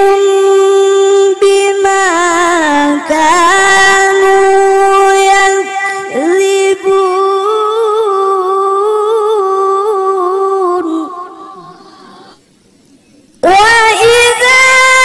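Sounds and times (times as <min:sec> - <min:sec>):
person reciting melodically: 0:00.0 - 0:12.4, 0:13.4 - 0:15.0.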